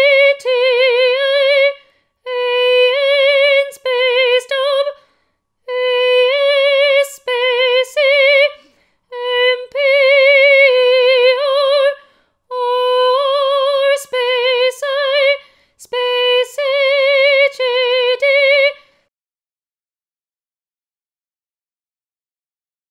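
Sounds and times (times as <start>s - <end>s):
woman singing with vibrato: 0.0s - 19.0s.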